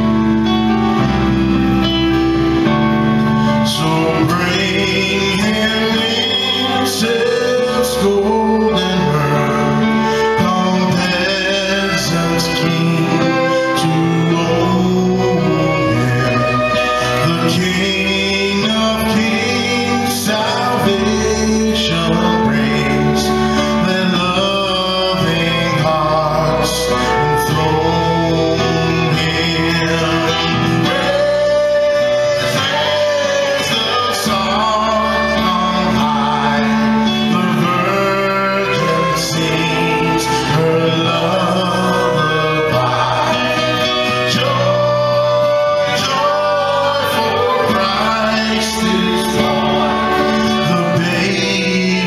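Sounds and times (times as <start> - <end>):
acoustic guitar: 0.0 - 52.0
bass line: 0.0 - 52.0
keyboard: 0.0 - 52.0
man singing: 0.0 - 52.0.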